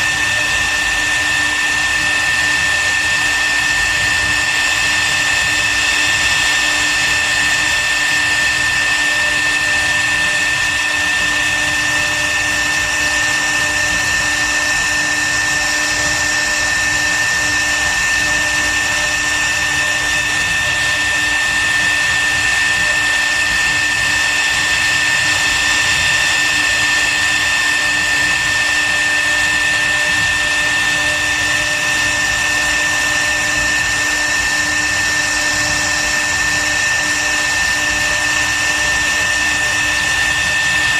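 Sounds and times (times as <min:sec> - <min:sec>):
router spindle whining while carving wood: 0:00.0 - 0:40.9.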